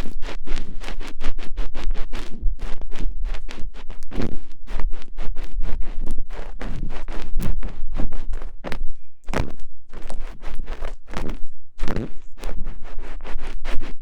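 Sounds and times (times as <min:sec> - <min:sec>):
ear-picking scratching and scraping: 0:00.0 - 0:14.0.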